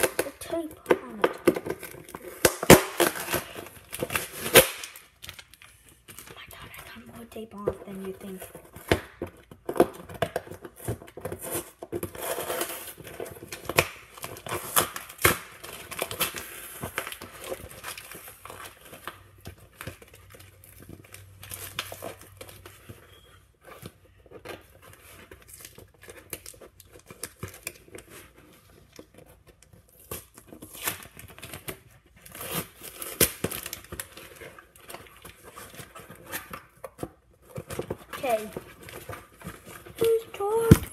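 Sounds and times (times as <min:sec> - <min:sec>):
packing tape ripping: 0:00.0 - 0:06.2, 0:08.7 - 0:22.7, 0:24.5 - 0:40.9
packaging crinkling and scraping: 0:00.0 - 0:40.9.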